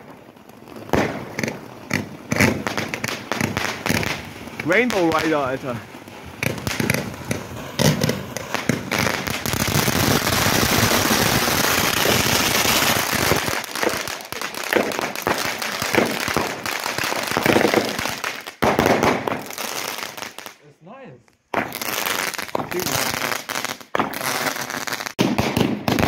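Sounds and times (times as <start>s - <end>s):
firework sharp cracks: 0.0s - 20.6s, 21.5s - 26.0s
firework crackling hiss: 0.0s - 20.7s, 21.6s - 26.0s.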